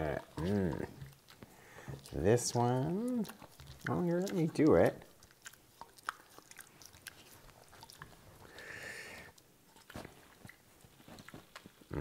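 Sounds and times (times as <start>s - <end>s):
dog licking lips: 0.0s - 11.9s.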